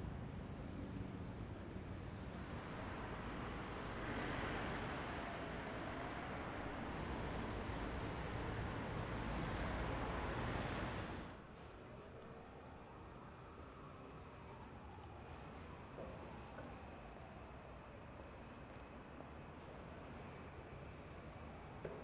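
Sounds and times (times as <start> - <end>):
city traffic noise: 0.0 - 22.0.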